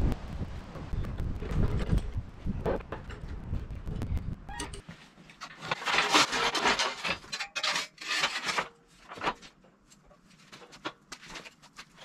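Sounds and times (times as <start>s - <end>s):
objects scraping and knocking: 1.4s - 12.0s.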